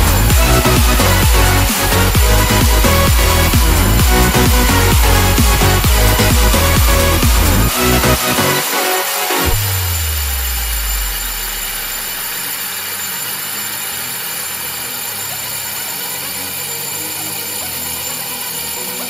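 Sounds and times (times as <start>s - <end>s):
metal lathe cutting: 0.0s - 19.0s.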